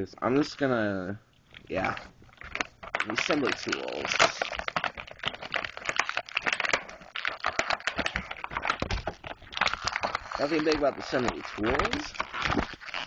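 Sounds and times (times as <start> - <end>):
plastic bag crinkling: 1.4 - 13.0.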